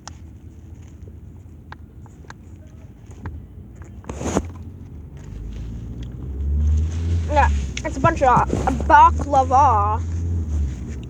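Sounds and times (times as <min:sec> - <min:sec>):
moving car rumble: 0:00.0 - 0:11.0.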